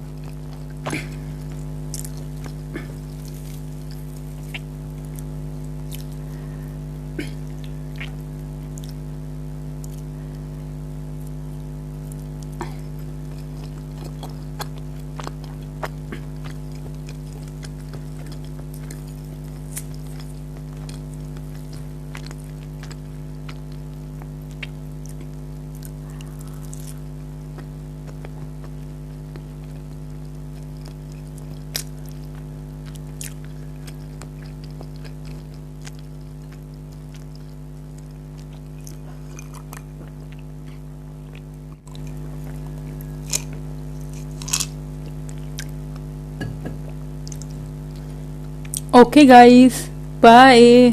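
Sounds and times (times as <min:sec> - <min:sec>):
low electrical hum: 0:00.0 - 0:50.9
person chewing food: 0:00.1 - 0:09.2, 0:09.8 - 0:10.5, 0:12.0 - 0:48.9.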